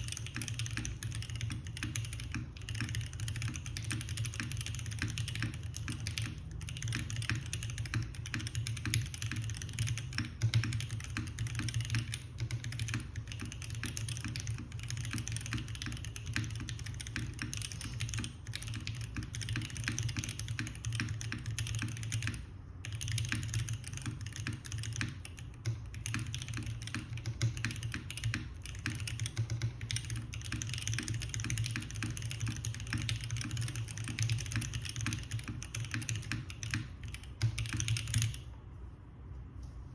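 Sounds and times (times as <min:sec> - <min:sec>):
mechanical keyboard typing: 0:00.0 - 0:38.6.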